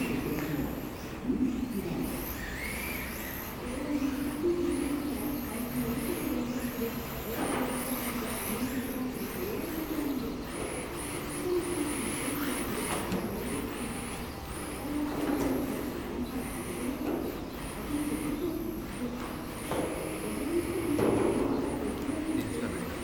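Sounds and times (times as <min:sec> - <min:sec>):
rc car motors whining: 0:00.0 - 0:23.0.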